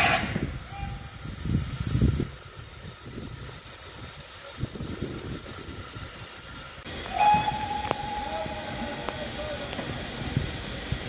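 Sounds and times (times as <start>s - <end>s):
steam locomotive rumbling past: 0.0s - 11.0s.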